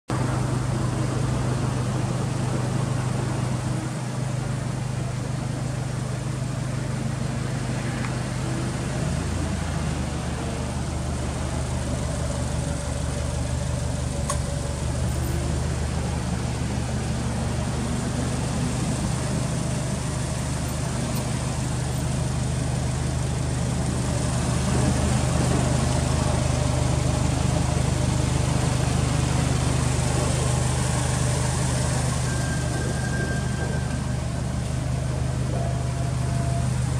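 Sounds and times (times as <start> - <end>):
car engine idling: 0.1 - 36.9.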